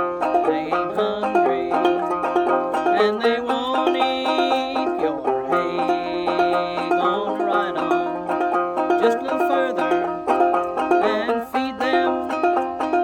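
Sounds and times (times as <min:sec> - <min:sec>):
banjo plucked notes: 0:00.0 - 0:13.0.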